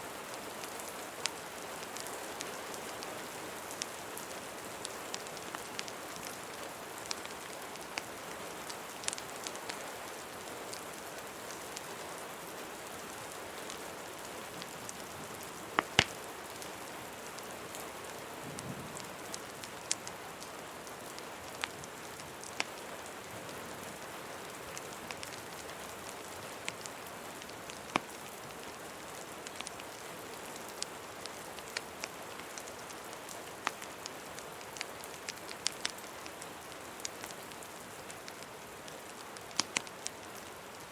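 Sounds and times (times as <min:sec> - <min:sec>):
steady rain: 0:00.0 - 0:40.9
wood fire crackling: 0:00.3 - 0:40.9.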